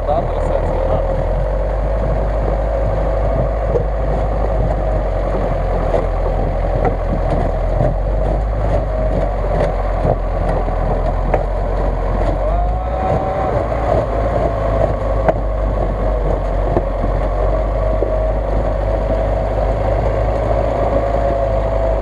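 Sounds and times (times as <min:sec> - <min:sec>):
truck engine running under load: 0:00.0 - 0:22.0.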